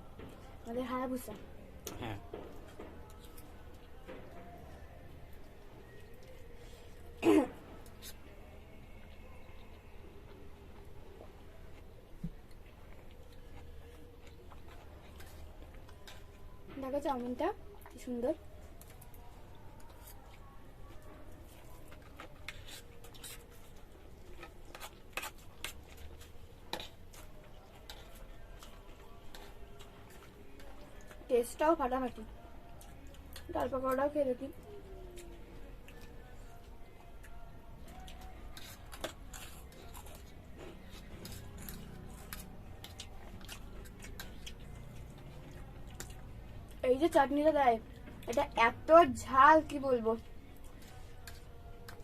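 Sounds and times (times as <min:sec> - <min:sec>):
eating with utensils clicking: 0:00.0 - 0:34.2, 0:34.8 - 0:48.8, 0:49.6 - 0:52.0
chewing crispy fritters: 0:00.0 - 0:52.0.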